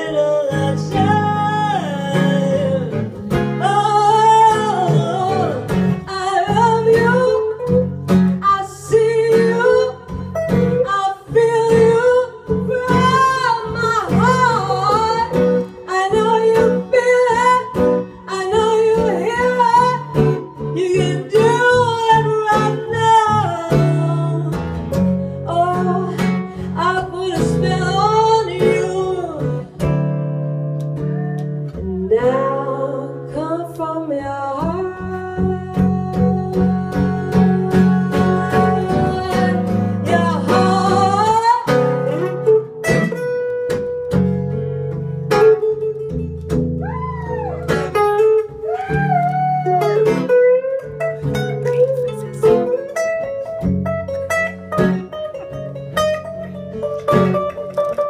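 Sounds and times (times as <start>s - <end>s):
woman singing: 0.0s - 43.1s, 48.6s - 53.6s
acoustic guitars strumming: 0.0s - 58.0s.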